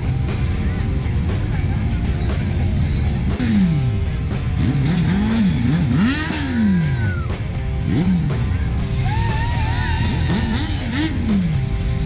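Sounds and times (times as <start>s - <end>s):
motorcycle engines revving: 0.0s - 12.0s
rock music with electric guitar: 0.0s - 12.0s.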